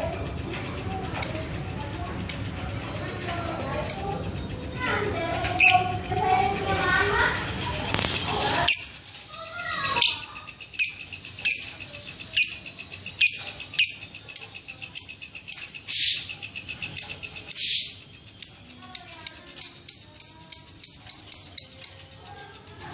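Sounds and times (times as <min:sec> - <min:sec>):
baby lovebird chirping: 0:00.0 - 0:22.9.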